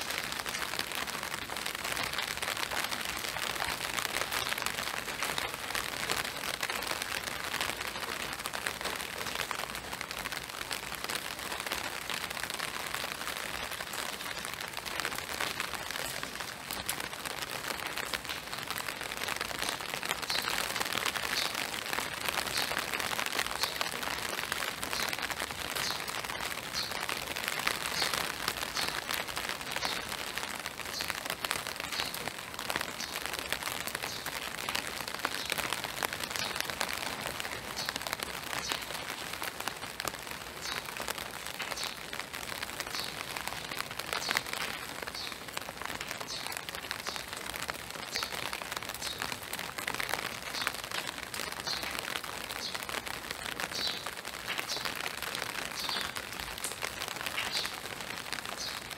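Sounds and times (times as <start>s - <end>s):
rain falling on boardwalk: 0.0s - 58.9s.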